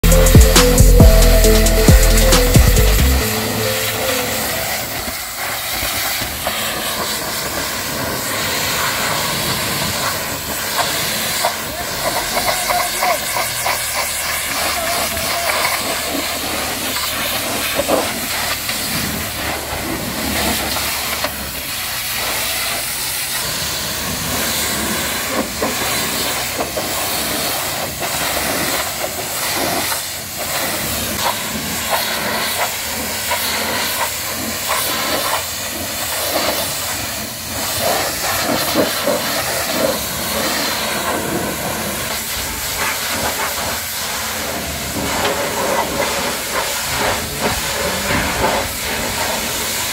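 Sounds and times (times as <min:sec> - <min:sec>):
pressure washer spraying metal: 0:00.0 - 0:49.9.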